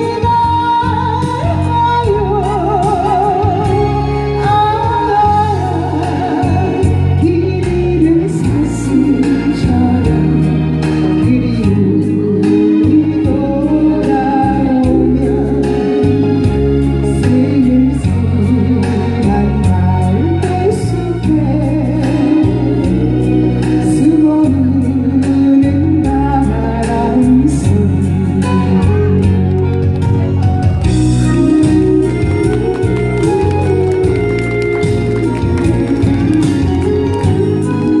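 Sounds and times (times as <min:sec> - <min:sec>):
woman singing pop song: 0:00.0 - 0:29.8, 0:30.9 - 0:38.0
electronic keyboard backing track: 0:00.0 - 0:38.0.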